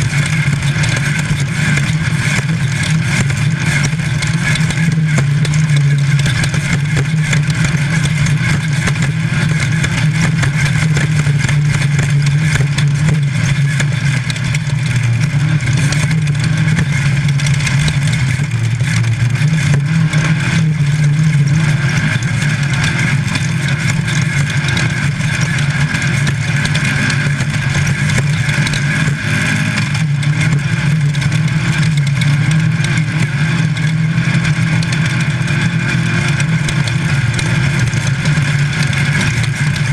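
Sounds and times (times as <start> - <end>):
constant rushing noise: 0.0 - 39.9
race car engine running hard: 0.0 - 39.9.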